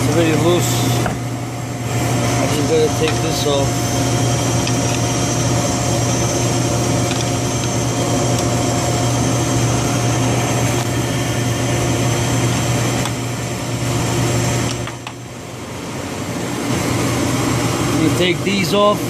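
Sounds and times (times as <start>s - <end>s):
high machine whine: 0.0s - 19.0s
machinery humming: 0.0s - 19.0s.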